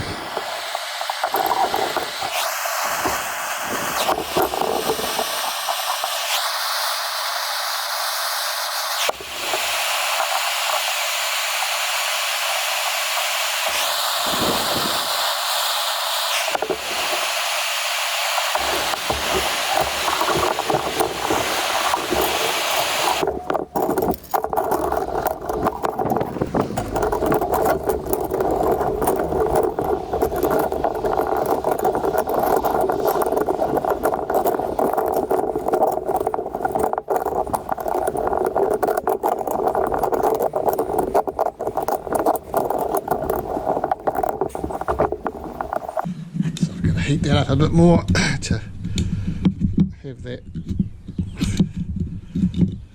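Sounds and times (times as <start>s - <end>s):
heating tool blowing: 0.0s - 42.6s
crackling: 0.0s - 46.1s.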